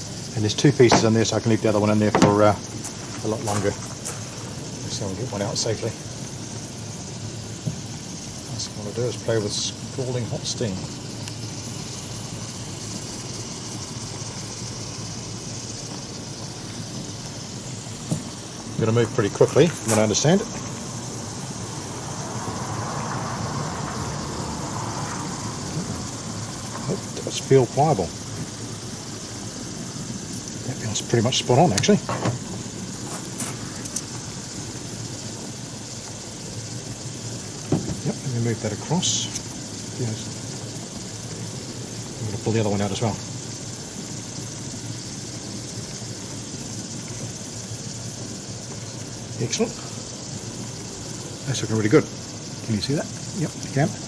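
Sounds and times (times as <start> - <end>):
steamer hissing: 0.0 - 54.0.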